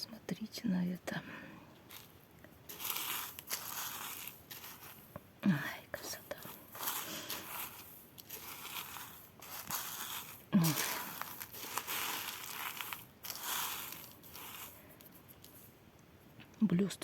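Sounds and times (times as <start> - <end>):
plastic packets rustling: 1.9 - 15.7.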